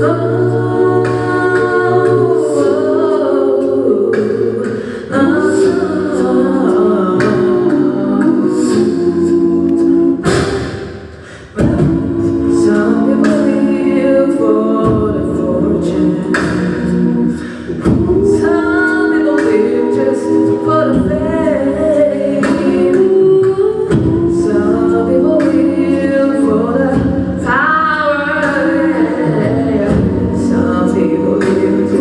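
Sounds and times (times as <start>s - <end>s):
backing singers: 0.0s - 32.0s
woman singing lead: 0.0s - 32.0s.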